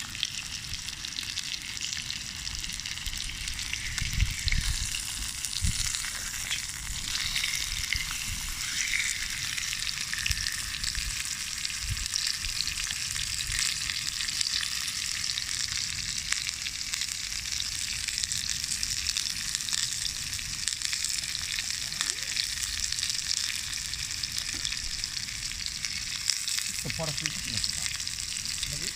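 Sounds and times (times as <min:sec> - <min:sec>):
steak sizzling on a grill: 0:00.0 - 0:28.9.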